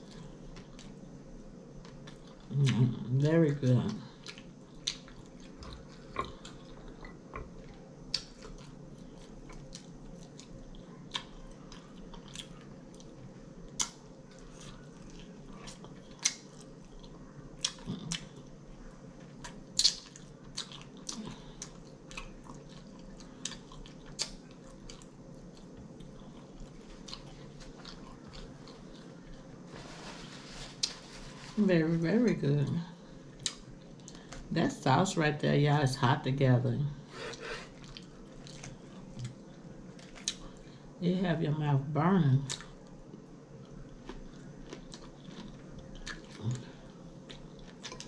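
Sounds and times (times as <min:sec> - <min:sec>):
person chewing crunchy food: 0:00.0 - 0:02.8, 0:04.1 - 0:31.5, 0:37.2 - 0:40.9, 0:42.5 - 0:48.0
faint steady hum: 0:00.0 - 0:48.0.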